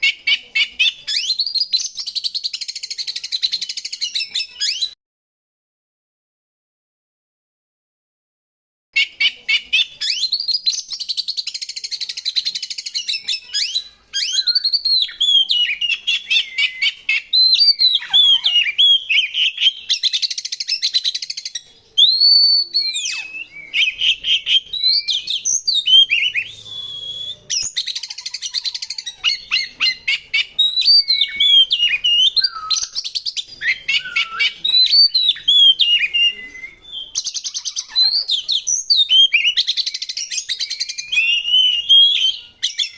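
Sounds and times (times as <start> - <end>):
songbird singing whistles and rattles: 0.0 - 5.0, 9.0 - 42.9.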